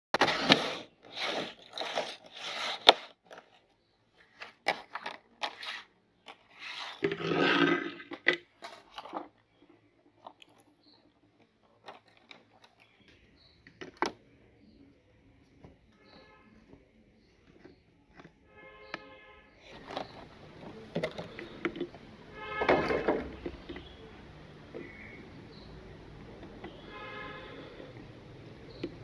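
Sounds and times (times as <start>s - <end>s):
plastic tub crinkling and scraping: 0.1s - 14.7s, 15.6s - 28.1s.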